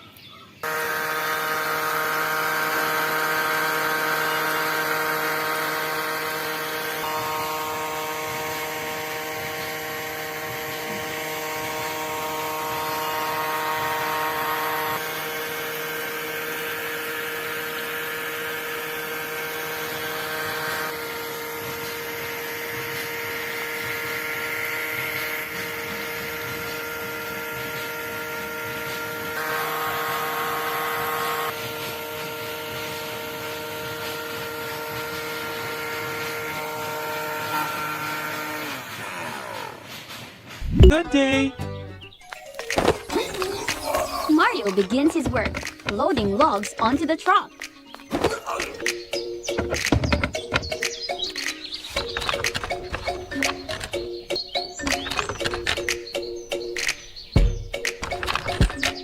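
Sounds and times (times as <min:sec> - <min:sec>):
small motor whining: 0:00.0 - 0:40.5, 0:42.4 - 0:59.0.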